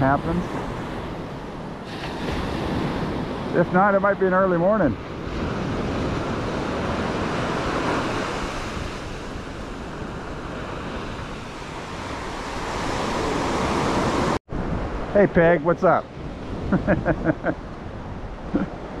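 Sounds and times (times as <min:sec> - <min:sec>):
surf washing onto beach: 0:00.0 - 0:19.0.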